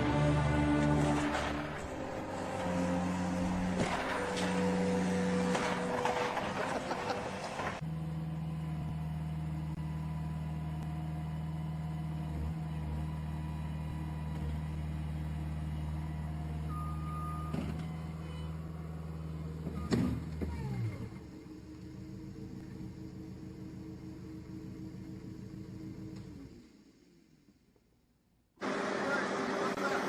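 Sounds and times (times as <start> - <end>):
loader engine running: 0.0 - 27.0.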